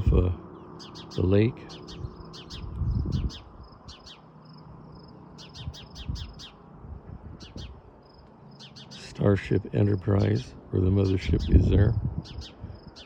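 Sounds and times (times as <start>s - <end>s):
bird chirping sharply: 0.0s - 6.7s, 7.4s - 10.4s, 12.2s - 13.0s.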